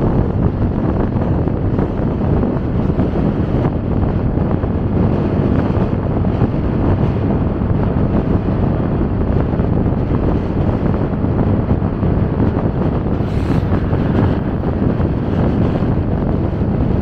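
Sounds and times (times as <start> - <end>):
road noise: 0.0 - 17.0
wind buffeting microphone: 0.0 - 17.0.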